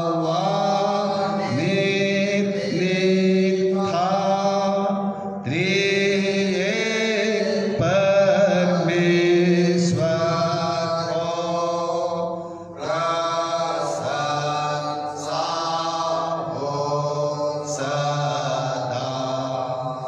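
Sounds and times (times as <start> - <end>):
hymn chanted with held notes: 0.0 - 20.0.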